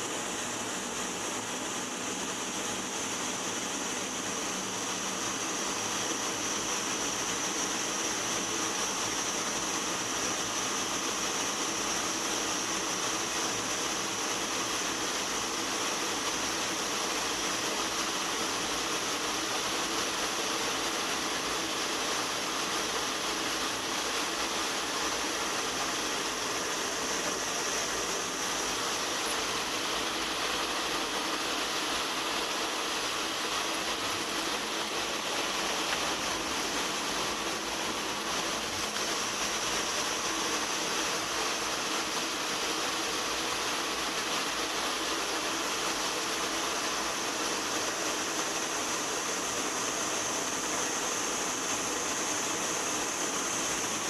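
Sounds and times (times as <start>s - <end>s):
jet cockpit engine hiss and whine: 0.0s - 54.0s.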